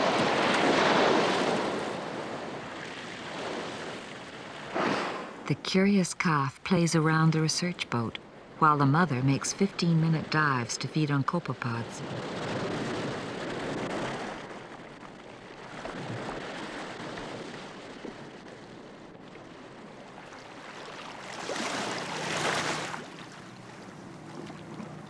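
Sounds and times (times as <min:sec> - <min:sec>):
rush of water: 0:00.0 - 0:25.0
sea water splashing: 0:00.0 - 0:25.0.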